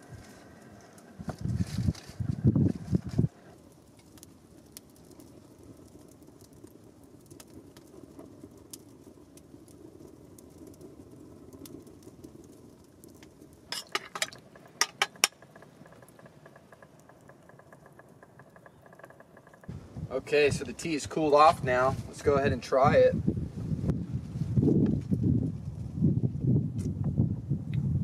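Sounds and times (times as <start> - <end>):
campfire crackling: 0.0 - 27.2.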